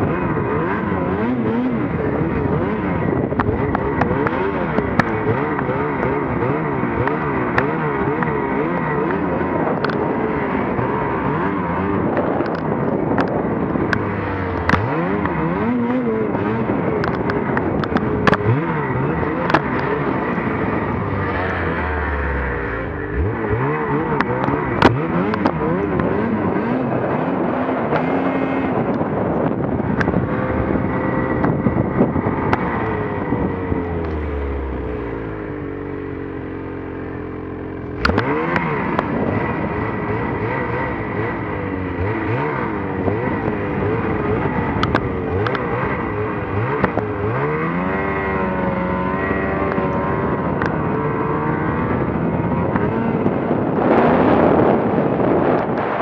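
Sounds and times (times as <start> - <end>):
snowmobile engine revving: 0.0 - 36.1, 36.7 - 56.0.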